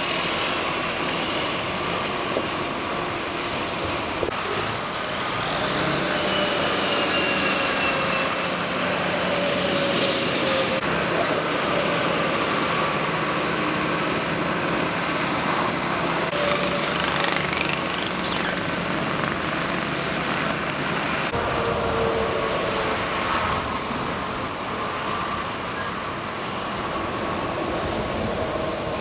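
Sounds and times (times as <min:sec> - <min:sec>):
heavy diesel machinery running: 0:00.0 - 0:29.0.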